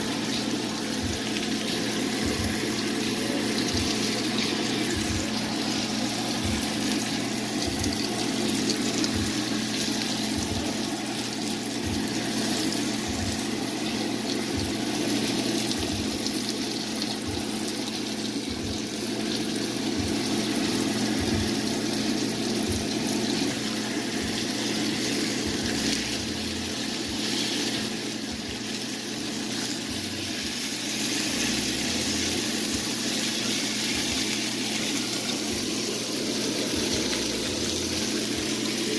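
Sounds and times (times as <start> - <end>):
fish sizzling in a skillet: 0.0 - 38.9.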